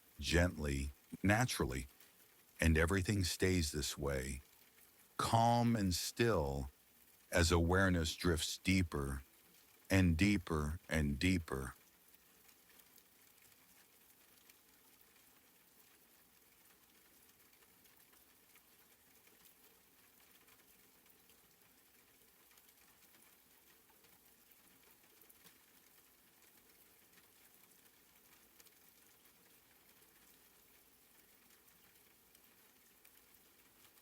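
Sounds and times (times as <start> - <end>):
soft rain patter: 0.0 - 34.0.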